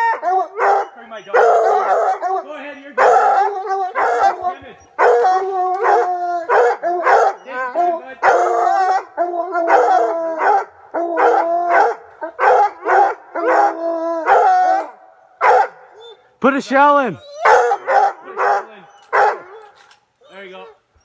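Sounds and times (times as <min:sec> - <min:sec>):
hounds baying and howling: 0:00.0 - 0:16.3, 0:17.2 - 0:21.0.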